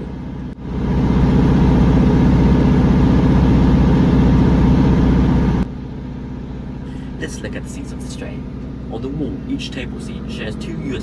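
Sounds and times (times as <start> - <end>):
train diesel engine throbbing: 0.0 - 11.0.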